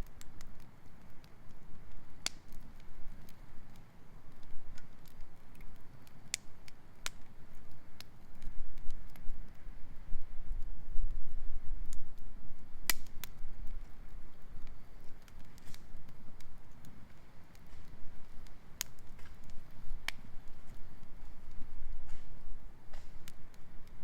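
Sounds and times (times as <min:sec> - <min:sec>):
campfire crackling: 0:00.0 - 0:24.0
fire low rumble: 0:00.0 - 0:24.0
fire popping: 0:00.0 - 0:24.0.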